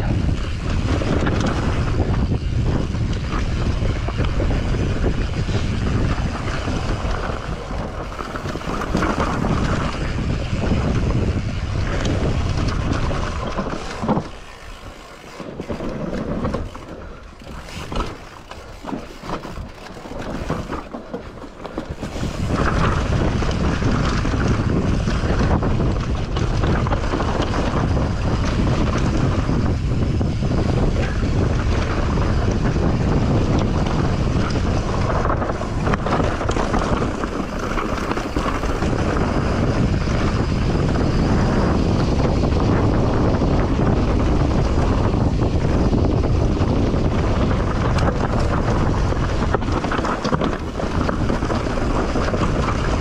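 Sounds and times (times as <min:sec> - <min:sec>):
bike rattling over rough ground: 0:00.0 - 0:53.0
wind rushing over microphone: 0:00.0 - 0:53.0.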